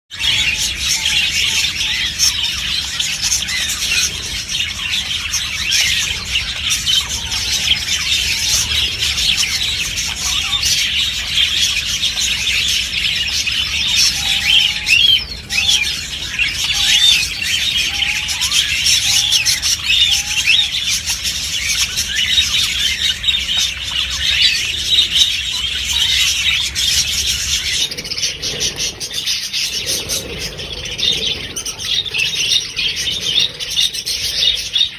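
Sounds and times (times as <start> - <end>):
parrots chattering and screeching: 0.1 - 34.9.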